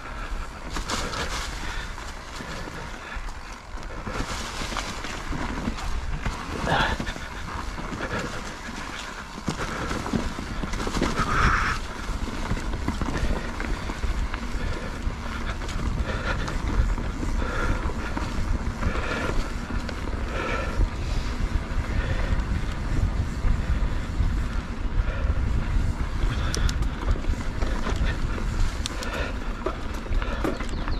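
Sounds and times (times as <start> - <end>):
mountain bike rumble on dirt trail: 0.0 - 30.9
wind buffeting microphone: 0.0 - 30.9
bike knocks and rattles: 0.4 - 30.9.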